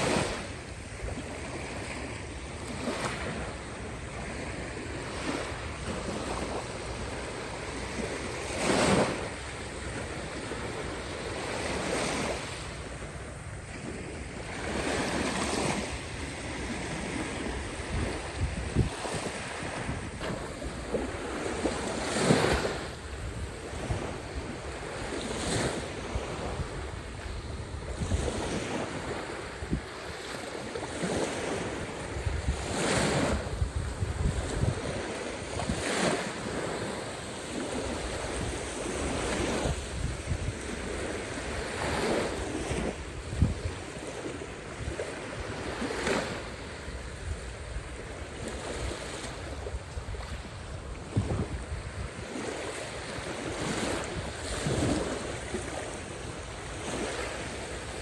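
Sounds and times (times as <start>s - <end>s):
waves breaking into surf: 0.0s - 58.0s.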